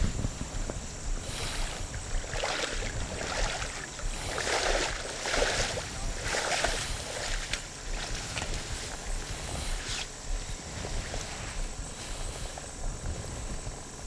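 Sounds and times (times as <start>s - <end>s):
wind rumble on microphone: 0.0s - 14.0s
water sloshing and splashing: 1.2s - 12.6s.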